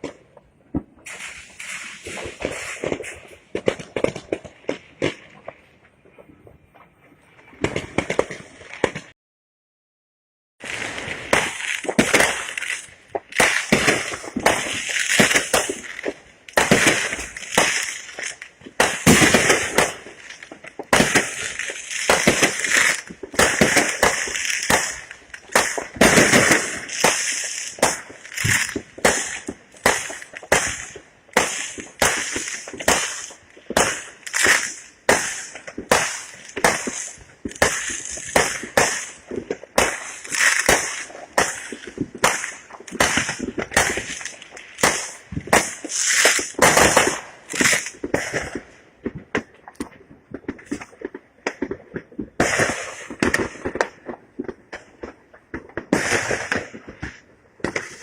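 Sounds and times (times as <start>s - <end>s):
fireworks banging and crackling: 0.0s - 9.2s, 10.6s - 58.0s.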